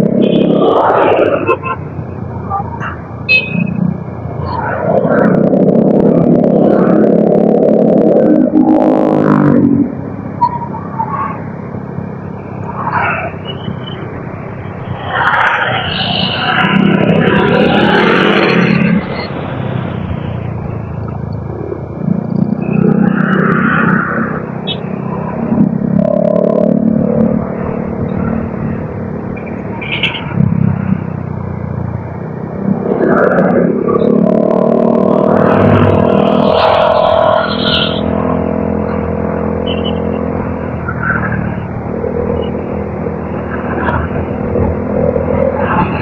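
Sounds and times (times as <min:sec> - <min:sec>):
engine and road noise: 0:00.0 - 0:46.0.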